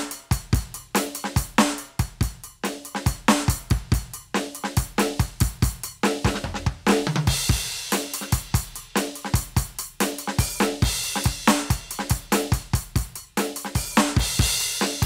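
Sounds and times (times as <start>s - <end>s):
electronic drum kit groove: 0.0s - 15.0s.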